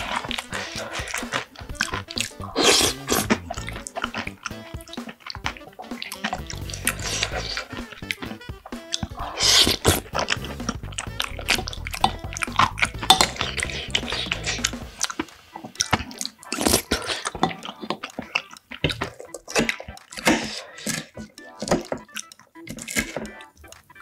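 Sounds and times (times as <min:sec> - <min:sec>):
wet chewing: 0:00.0 - 0:24.0.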